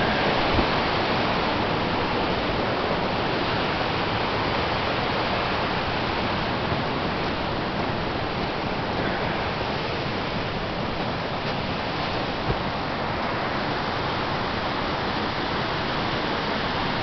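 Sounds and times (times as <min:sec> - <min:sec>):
waterfall and creek rushing: 0:00.0 - 0:17.0.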